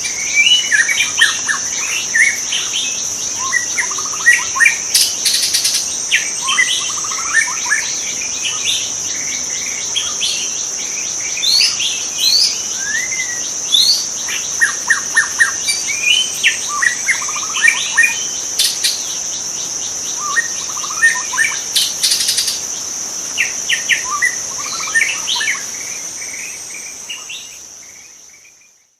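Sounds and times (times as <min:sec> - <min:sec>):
high-pitched insect drone: 0:00.0 - 0:28.9.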